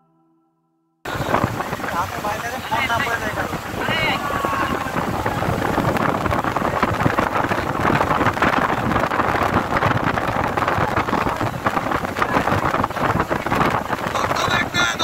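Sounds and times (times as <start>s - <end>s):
churning wake water: 1.1s - 15.0s
ship engine rushing: 1.1s - 15.0s
wind buffeting microphone: 1.1s - 15.0s.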